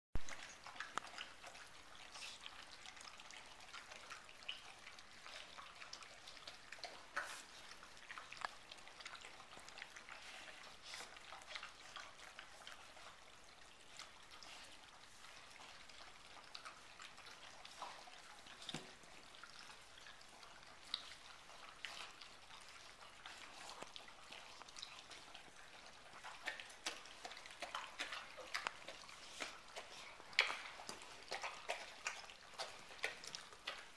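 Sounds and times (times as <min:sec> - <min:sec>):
puppies eating from steel bowl: 0:00.2 - 0:33.9.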